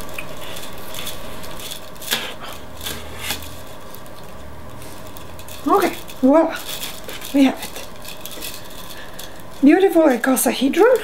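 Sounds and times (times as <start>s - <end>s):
plastic straws clicking and rattling: 0.0s - 11.0s.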